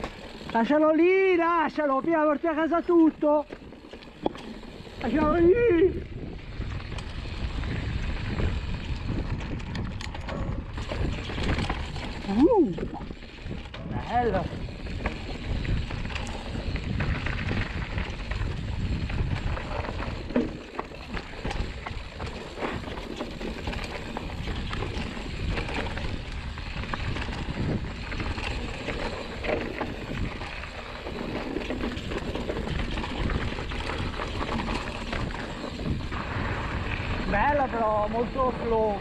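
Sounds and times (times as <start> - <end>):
bike rattling over bumps: 0.0 - 39.0
tyres over dirt and stones: 0.0 - 39.0
wind rumbling on microphone: 4.1 - 39.0.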